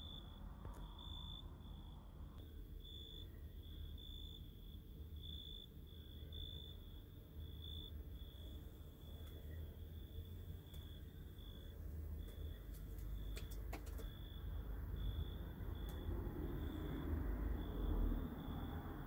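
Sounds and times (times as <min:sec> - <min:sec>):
low steady hum: 0:00.0 - 0:18.9
cricket chirping: 0:00.0 - 0:19.0.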